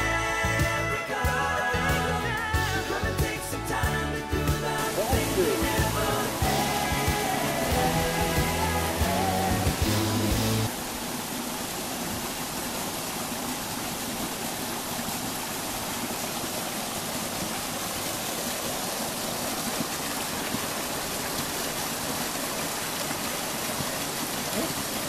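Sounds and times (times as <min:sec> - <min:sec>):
brook flowing: 0:00.0 - 0:25.0.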